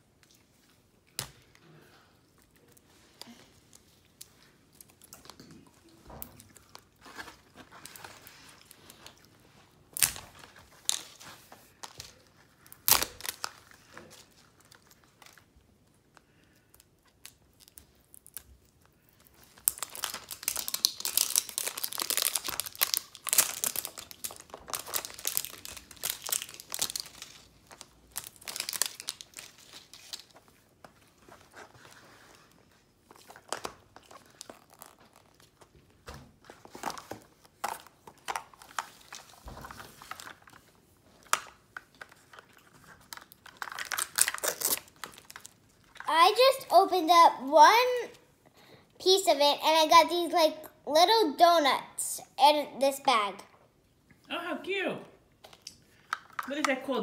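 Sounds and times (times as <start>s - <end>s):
plastic wrapping crinkling and tearing: 2.4s - 48.1s, 55.4s - 56.6s.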